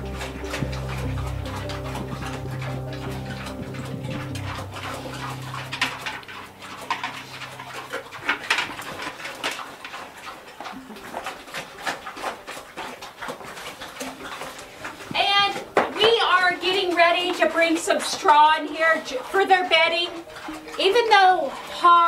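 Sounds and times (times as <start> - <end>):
pig chewing with wet crunching: 0.0 - 22.0.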